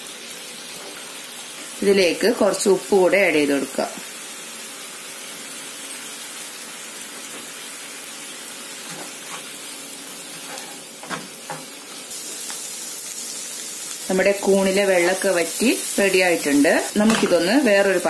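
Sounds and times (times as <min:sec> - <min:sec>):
mushrooms sizzling in a pan: 0:00.0 - 0:18.0.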